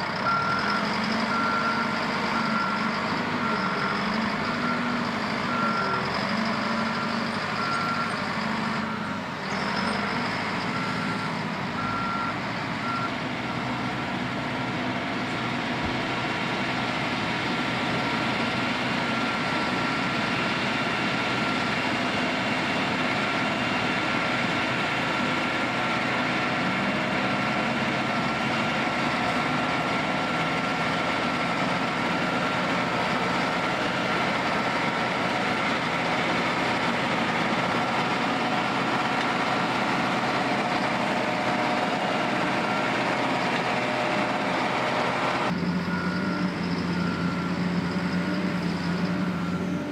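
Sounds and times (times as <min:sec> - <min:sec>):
reversing alarm beeping: 0:00.0 - 0:14.0, 0:17.9 - 0:22.2, 0:26.5 - 0:49.9
heavy machine engine running: 0:00.0 - 0:49.9.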